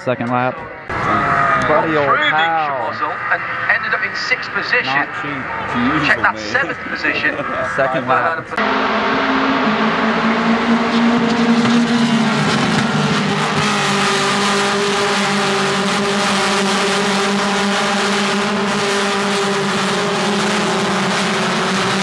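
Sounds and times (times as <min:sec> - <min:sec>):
race car engine drone: 0:00.0 - 0:22.0.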